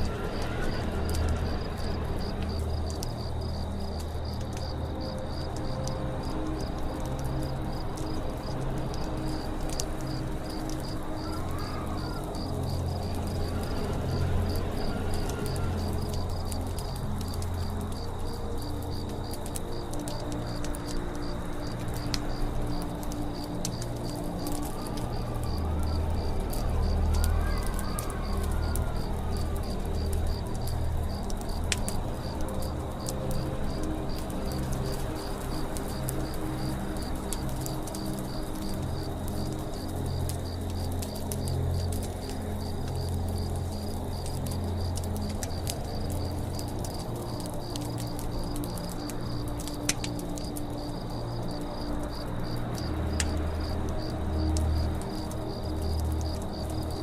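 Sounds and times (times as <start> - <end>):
wood crackling and popping: 0.0 - 57.0
cricket chirping: 8.4 - 57.0.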